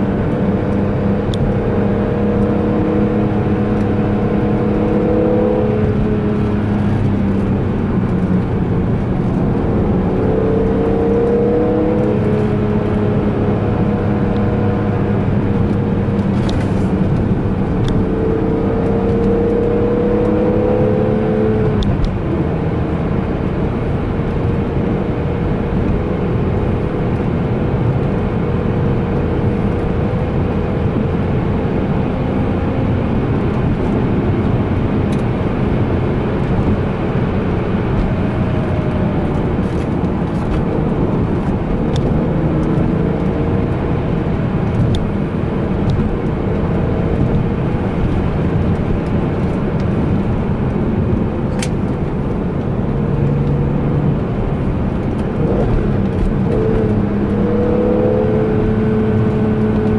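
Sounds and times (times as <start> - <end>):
car engine droning: 0.0 - 59.9
road noise: 0.0 - 59.9.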